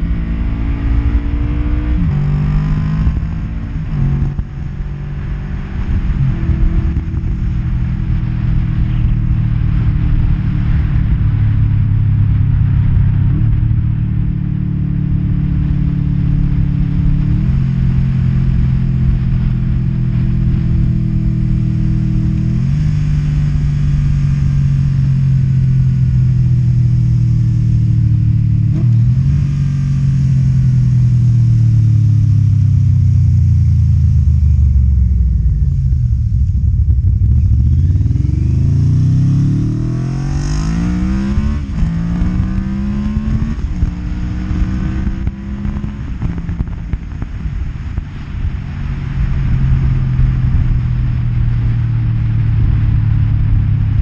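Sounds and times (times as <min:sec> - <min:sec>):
motorcycle engine: 0:00.0 - 0:54.0.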